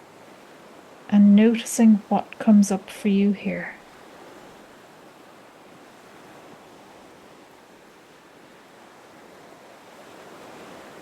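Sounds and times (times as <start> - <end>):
gentle ocean waves: 0.0 - 11.0.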